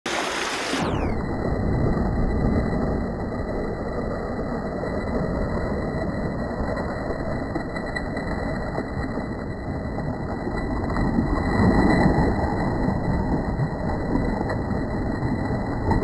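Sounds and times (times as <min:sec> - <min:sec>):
churning sea water: 0:00.0 - 0:16.0.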